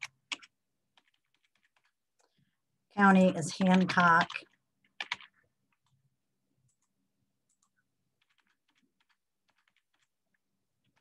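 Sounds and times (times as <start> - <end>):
computer keyboard typing: 0.0 - 11.0.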